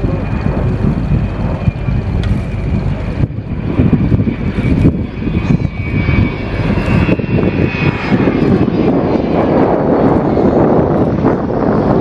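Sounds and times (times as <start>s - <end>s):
jet aircraft flypast: 0.0s - 12.0s.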